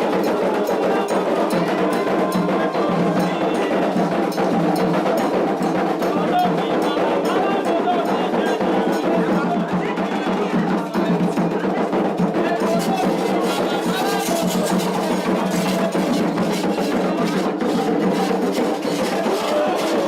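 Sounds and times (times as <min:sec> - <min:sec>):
hand drums and percussion: 0:00.0 - 0:20.0
voices singing: 0:00.0 - 0:20.0.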